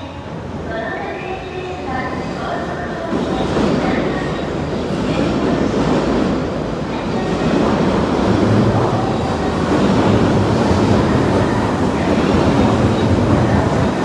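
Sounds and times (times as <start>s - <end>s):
electric train rumbling on track: 0.0s - 14.0s.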